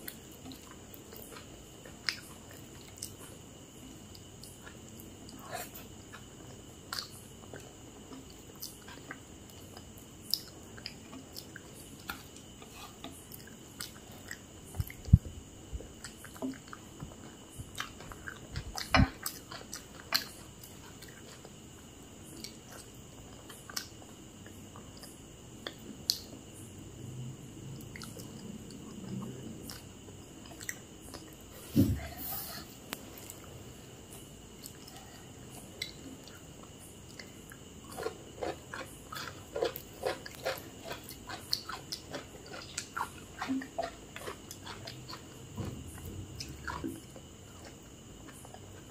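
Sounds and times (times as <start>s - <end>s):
person chewing food: 0.0s - 21.6s, 22.3s - 26.2s, 27.8s - 31.4s, 32.5s - 48.9s.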